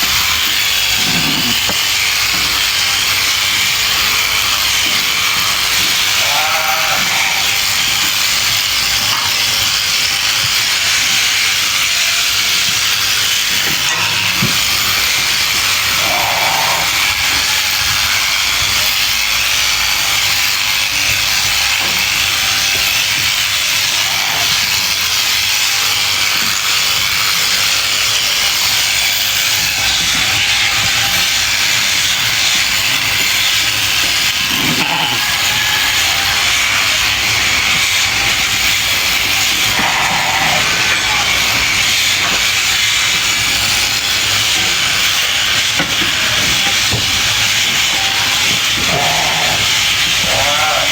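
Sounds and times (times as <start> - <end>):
sheep bleating: 0.0 - 12.1, 13.8 - 50.9
electric sheep shears hissing: 0.0 - 50.9.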